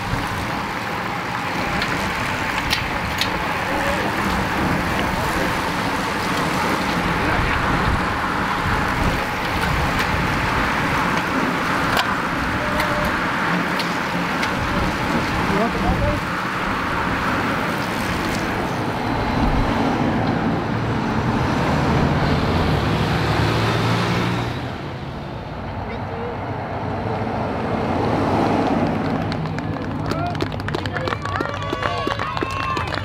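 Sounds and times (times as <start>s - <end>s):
bicycles riding past: 0.0s - 24.6s, 27.1s - 33.0s
vehicle engines: 0.0s - 33.0s.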